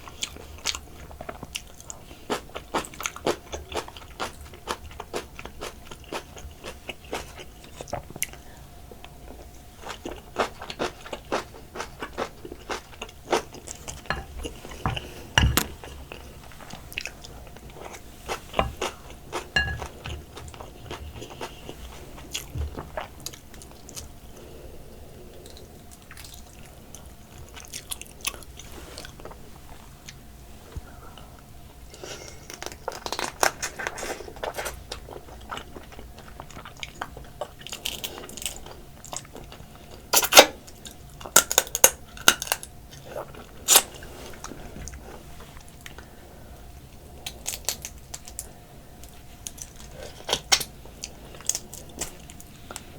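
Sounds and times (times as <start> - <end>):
crunching and chewing crab shell: 0.0 - 24.5, 25.3 - 30.2, 31.9 - 52.9.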